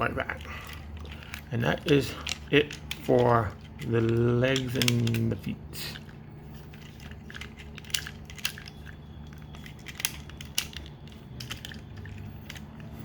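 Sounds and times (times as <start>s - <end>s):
plastic toy clicking and crackling: 0.0s - 13.0s.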